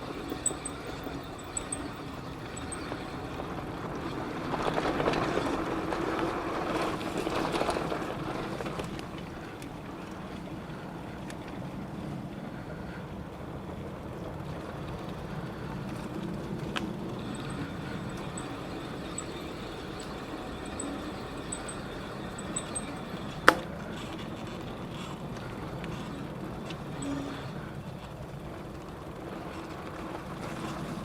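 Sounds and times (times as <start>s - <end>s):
bicycle rolling noise: 0.0s - 31.0s.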